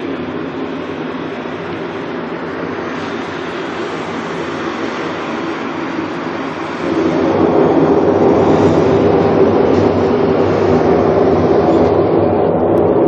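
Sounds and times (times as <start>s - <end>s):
loud rumbling drone: 0.0s - 13.0s.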